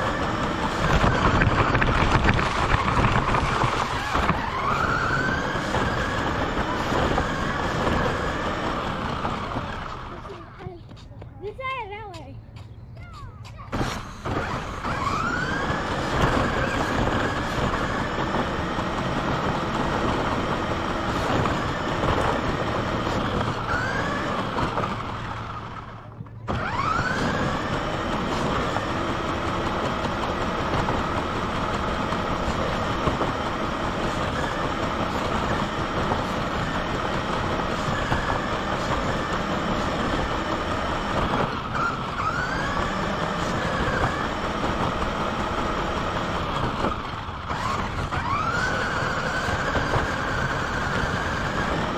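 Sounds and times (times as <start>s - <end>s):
electric motor whining: 0.0s - 10.5s, 13.7s - 51.9s
tyre noise on concrete: 0.0s - 51.9s.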